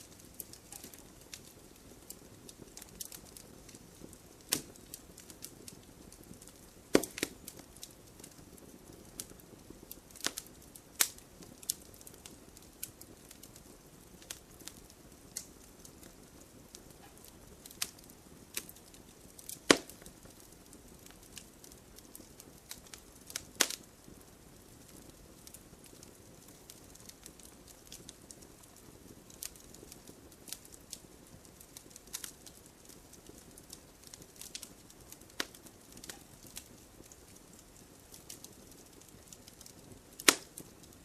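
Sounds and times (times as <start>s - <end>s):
low steady hiss: 0.0s - 41.0s
wood fire crackling and popping: 0.0s - 41.0s.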